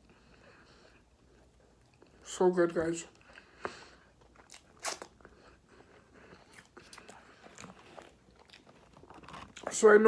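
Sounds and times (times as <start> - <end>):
person chewing food: 0.0 - 2.2, 3.1 - 10.0.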